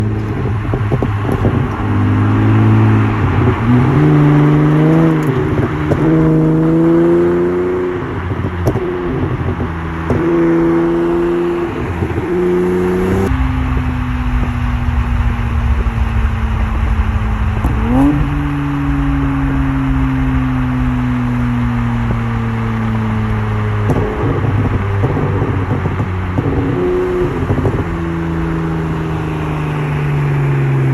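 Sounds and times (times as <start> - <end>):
car engine accelerating through gears: 0.0 - 30.9.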